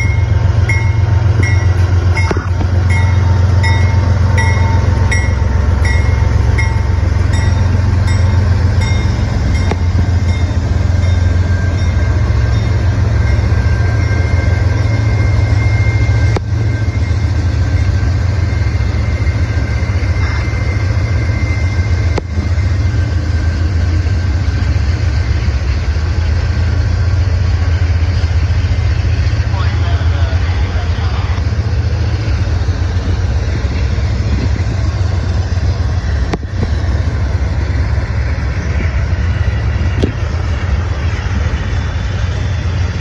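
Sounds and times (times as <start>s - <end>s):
locomotive engine rumble: 0.0s - 43.0s
rail and wheel noise: 0.0s - 43.0s.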